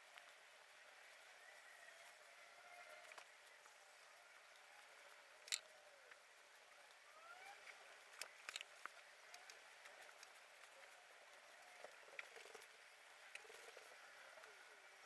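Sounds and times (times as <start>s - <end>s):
small ticks: 1.8s - 15.0s.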